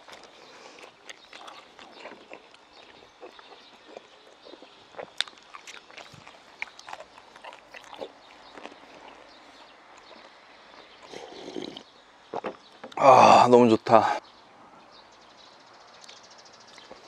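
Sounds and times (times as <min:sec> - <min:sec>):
chewing food: 0:00.0 - 0:13.0, 0:16.0 - 0:17.0.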